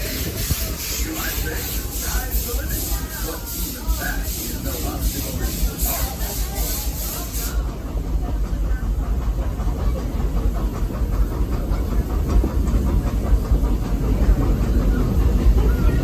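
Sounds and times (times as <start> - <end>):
steam train hissing: 0.0 - 16.0
train wheels rolling on rails: 0.0 - 16.0.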